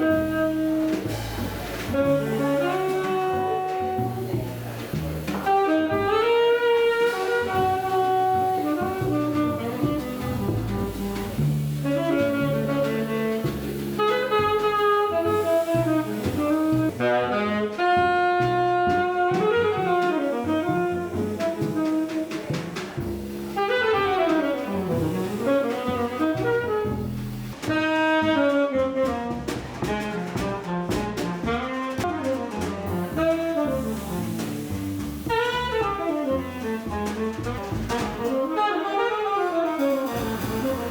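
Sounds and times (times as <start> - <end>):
drums: 0.0 - 40.9
saxophone playing jazz: 0.0 - 40.9
walking bass line: 0.0 - 40.9.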